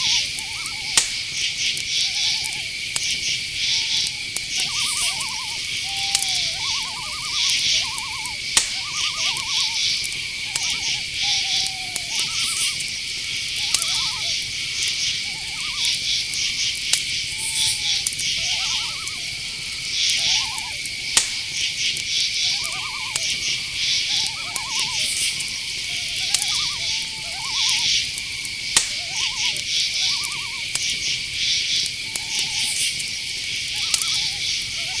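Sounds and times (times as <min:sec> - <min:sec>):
crickets and insects chirring: 0:00.0 - 0:35.0
quavering owl calls: 0:00.0 - 0:35.0
sharp clicks: 0:00.1 - 0:35.0.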